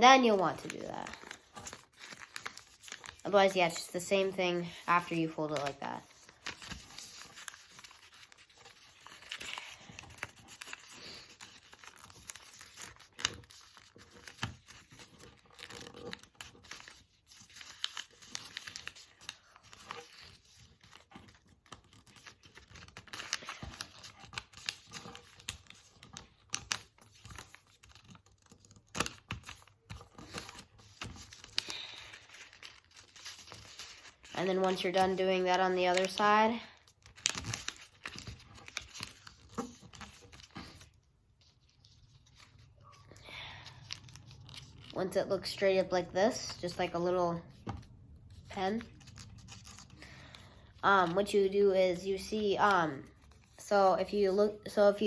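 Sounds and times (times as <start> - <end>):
paper rustling and crinkling: 0.0 - 55.0.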